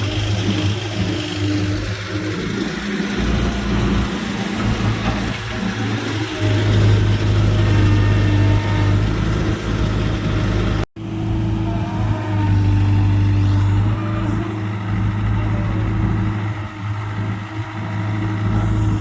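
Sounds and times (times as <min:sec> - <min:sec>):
heavy diesel engine humming: 0:00.0 - 0:19.0.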